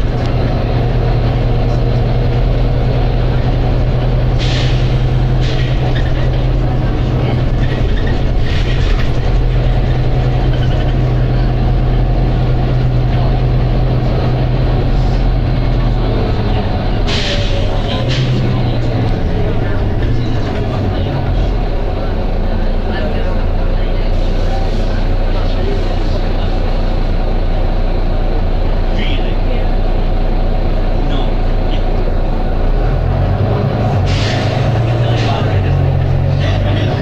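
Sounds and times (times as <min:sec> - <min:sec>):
bus engine drone: 0:00.0 - 0:37.0.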